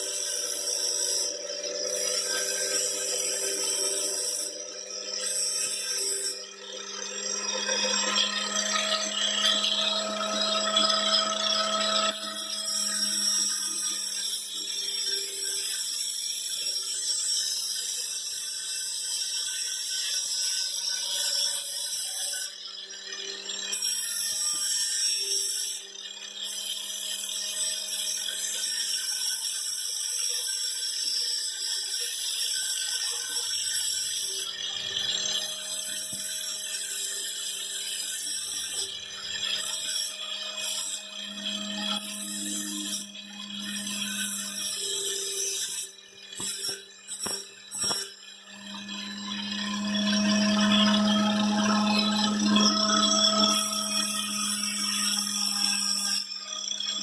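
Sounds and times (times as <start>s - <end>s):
knife grinding on wheel: 0.0s - 16.4s, 23.5s - 57.0s.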